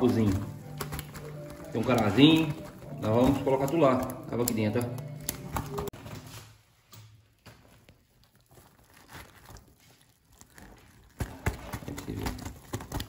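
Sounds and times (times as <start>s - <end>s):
fish net rustling: 0.0s - 13.0s.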